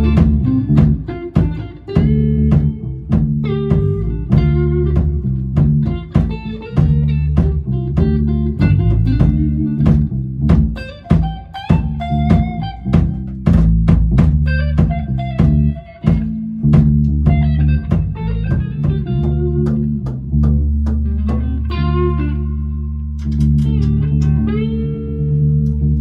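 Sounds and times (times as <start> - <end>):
drum kit steady beat: 0.0 - 21.6
bass guitar: 0.0 - 26.0
distorted electric guitar: 0.0 - 26.0.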